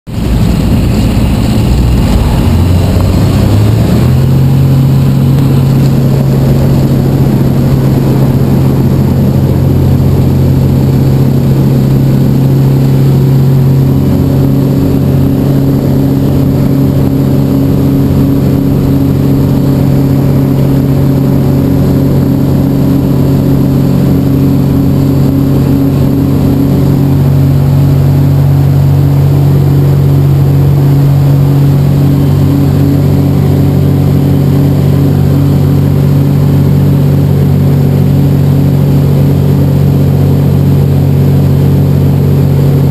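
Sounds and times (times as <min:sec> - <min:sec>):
light airplane engine and propeller: 0:00.1 - 0:42.9.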